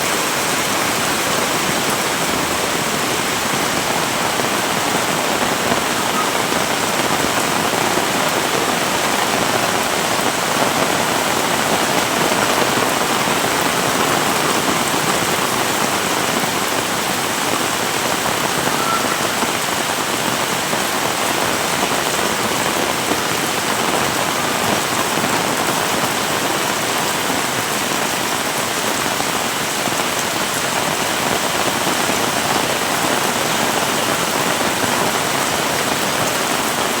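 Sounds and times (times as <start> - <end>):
heavy rain pattering: 0.0 - 37.0.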